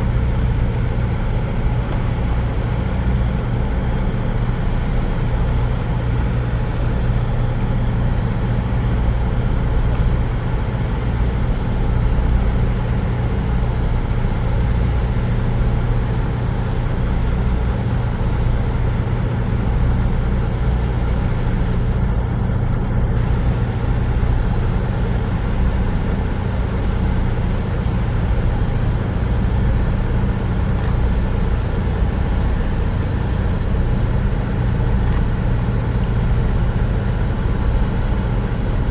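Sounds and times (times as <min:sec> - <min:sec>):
low mechanical drone: 0:00.0 - 0:38.9.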